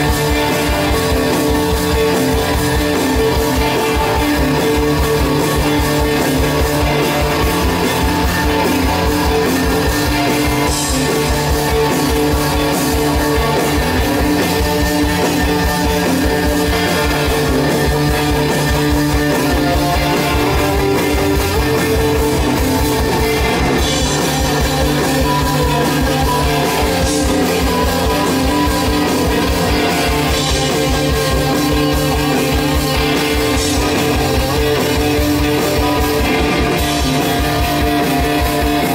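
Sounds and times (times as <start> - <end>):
bass guitar: 0.0 - 38.9
drum kit fast beat: 0.0 - 38.9
electric guitars: 0.0 - 38.9.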